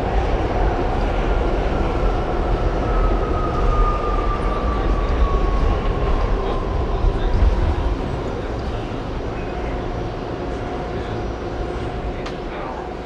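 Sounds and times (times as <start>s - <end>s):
subway train rumbling on rails: 0.0s - 13.0s.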